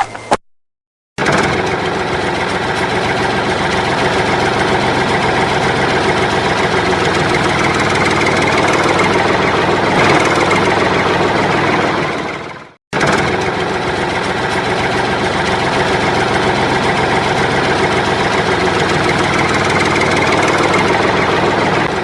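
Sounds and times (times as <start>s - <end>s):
vehicle engine idling: 1.2s - 22.0s.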